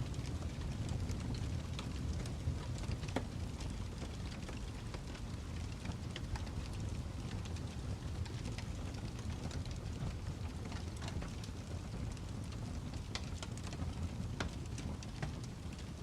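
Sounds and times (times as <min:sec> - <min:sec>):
fireplace crackling: 0:00.0 - 0:16.0
low background noise: 0:00.0 - 0:16.0.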